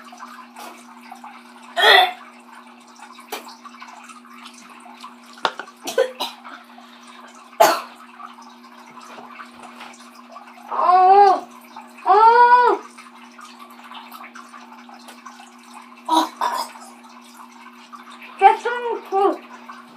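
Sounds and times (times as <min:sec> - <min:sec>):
water trickling: 0:00.0 - 0:19.9.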